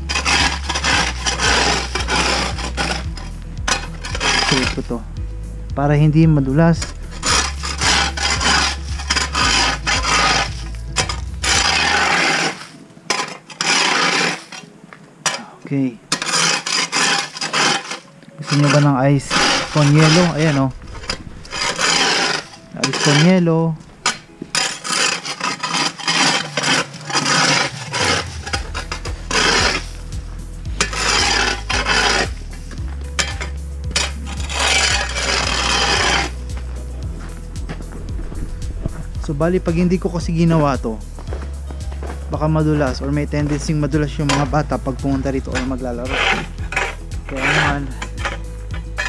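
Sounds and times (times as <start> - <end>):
ice scraper rasping on concrete: 0.0 - 5.0, 6.8 - 39.2, 40.0 - 49.0.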